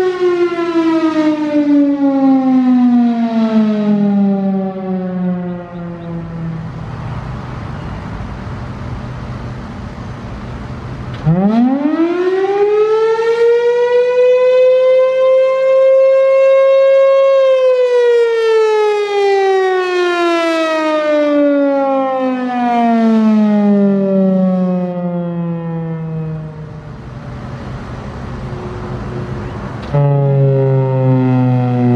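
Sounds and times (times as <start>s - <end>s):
warning siren rising and falling: 0.0s - 8.2s, 10.8s - 31.9s.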